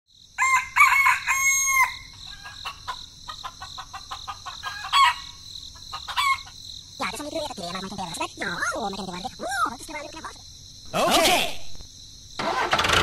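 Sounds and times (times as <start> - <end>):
high insect buzz: 0.1 - 12.4.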